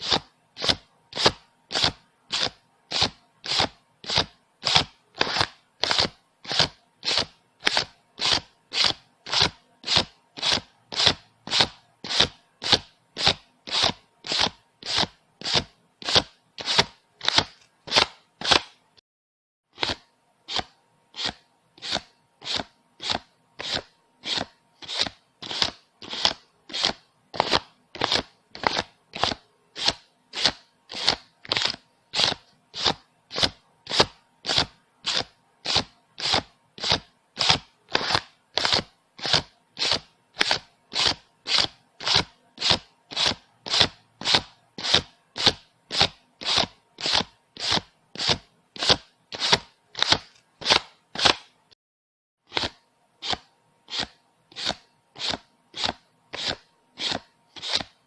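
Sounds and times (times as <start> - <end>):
banknotes counted by hand: 0.0 - 18.9, 19.7 - 51.6, 52.5 - 58.0.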